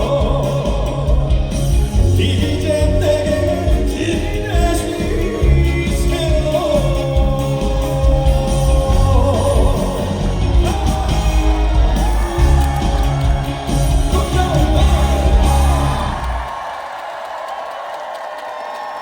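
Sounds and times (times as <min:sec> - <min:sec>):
man singing: 0:00.0 - 0:16.6
backing track music: 0:00.0 - 0:16.8
audience noise: 0:00.0 - 0:19.0.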